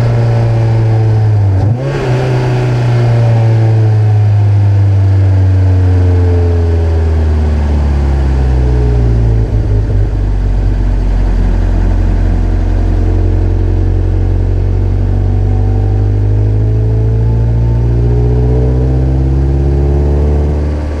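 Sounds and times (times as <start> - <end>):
car engine exhaust revving: 0.0 - 21.0.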